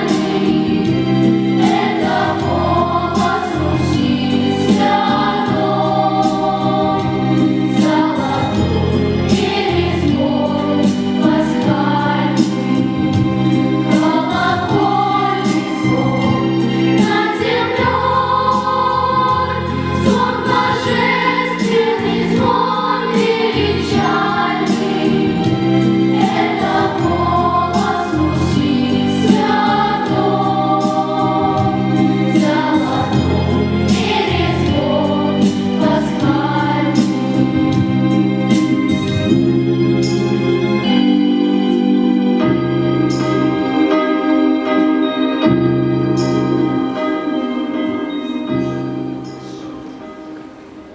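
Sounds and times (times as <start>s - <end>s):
choral singing: 0.0s - 50.9s.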